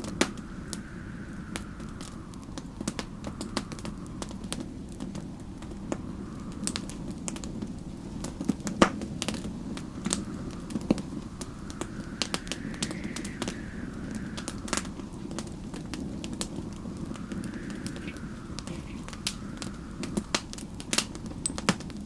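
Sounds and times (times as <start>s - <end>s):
low rumble: 0.0s - 22.0s
storm wind whistling: 0.0s - 22.0s
wood fire crackling and popping: 0.0s - 22.0s.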